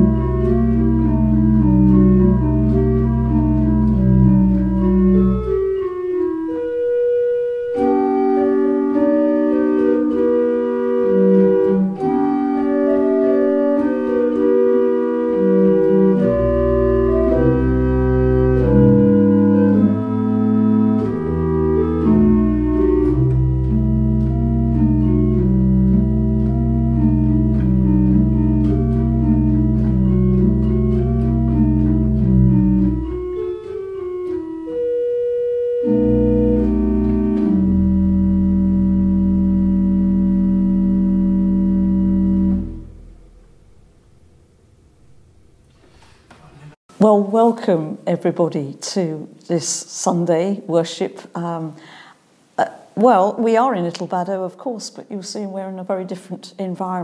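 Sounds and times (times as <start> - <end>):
low organ bass line: 0.0 - 45.7
organ chords: 0.0 - 46.0.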